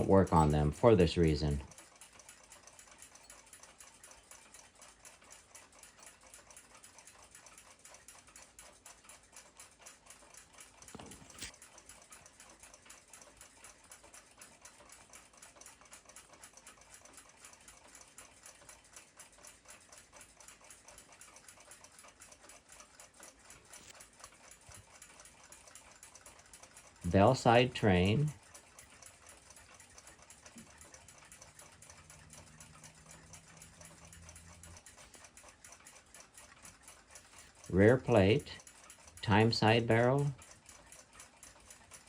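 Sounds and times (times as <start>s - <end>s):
mechanical clock ticking: 0.0s - 42.0s.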